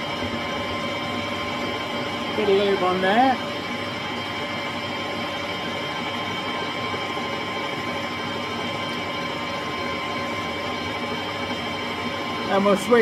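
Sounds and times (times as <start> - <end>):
metal lathe gear whine: 0.0 - 13.0.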